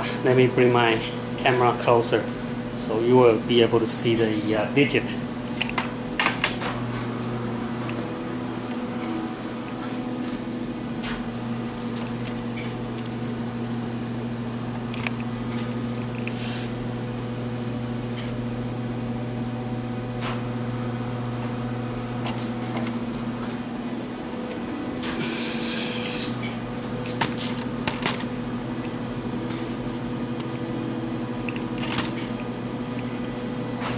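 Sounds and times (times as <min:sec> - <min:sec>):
steady machine hum: 0:00.0 - 0:33.9.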